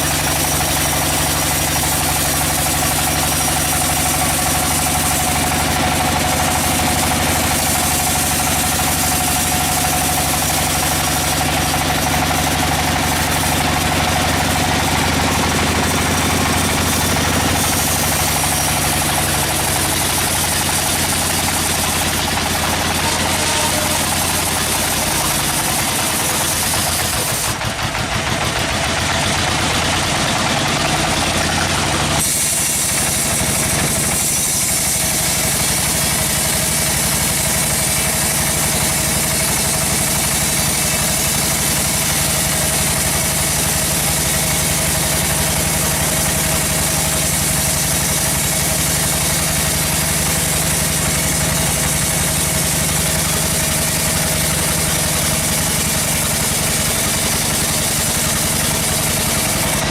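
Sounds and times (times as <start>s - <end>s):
sawmill machinery engine drone: 0.0s - 59.9s.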